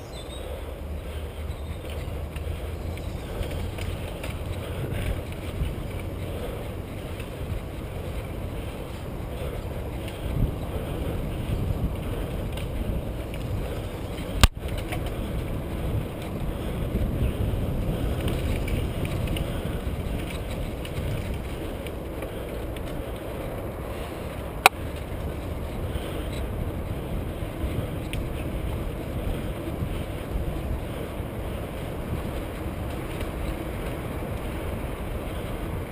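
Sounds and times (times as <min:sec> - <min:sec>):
bike tyres rumbling on dirt: 0:00.0 - 0:35.9
wind on microphone: 0:00.0 - 0:35.9.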